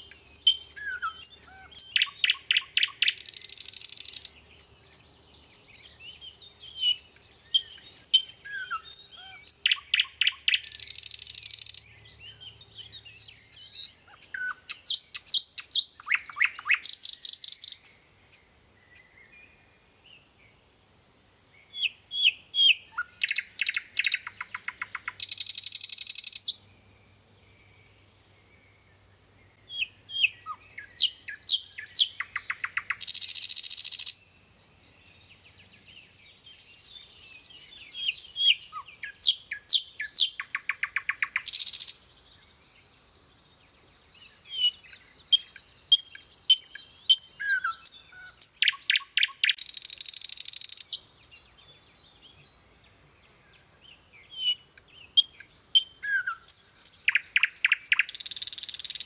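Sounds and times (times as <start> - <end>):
songbirds trilling and chirping: 0.0 - 59.0.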